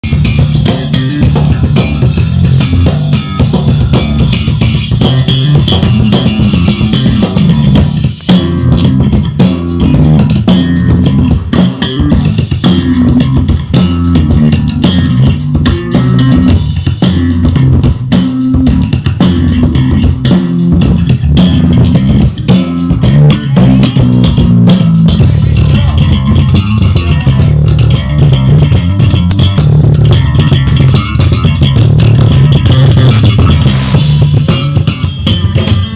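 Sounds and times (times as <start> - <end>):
loud electric bass guitar: 0.0 - 35.9.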